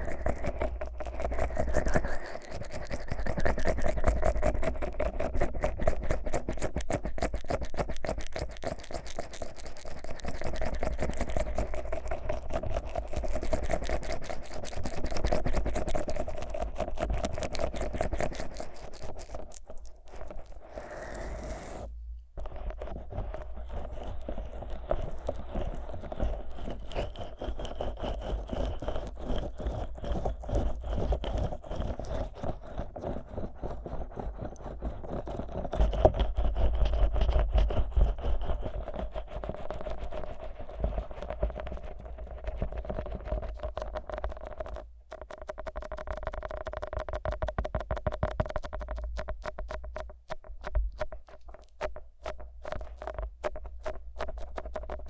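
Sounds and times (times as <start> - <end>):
fingers squelching on microphone: 0.0 - 55.0.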